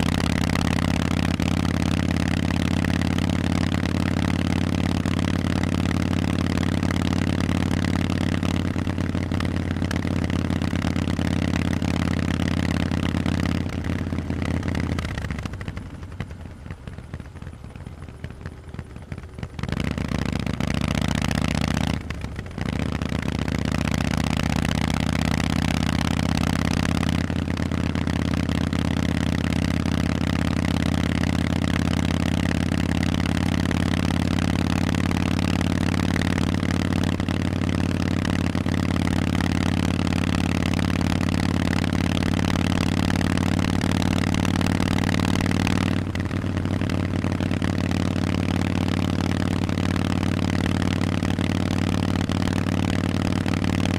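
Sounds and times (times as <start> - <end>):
loud motorcycle engine running: 0.0 - 53.9.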